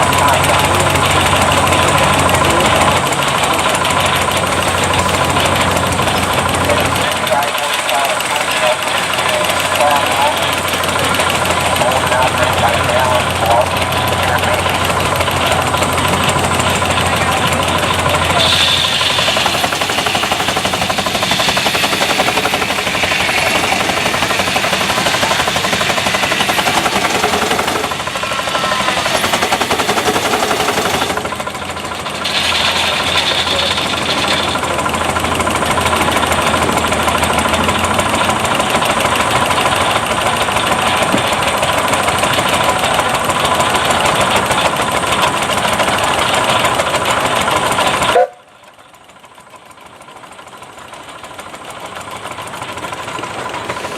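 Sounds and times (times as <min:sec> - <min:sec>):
steam traction engine running: 0:00.0 - 0:53.9.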